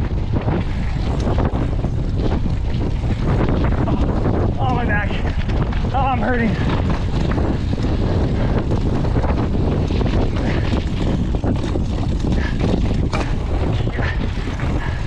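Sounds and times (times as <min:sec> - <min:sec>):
bike rattling and knocking: 0:00.0 - 0:15.0
bike tyres rumbling: 0:00.0 - 0:15.0
wind noise on microphone: 0:00.0 - 0:15.0.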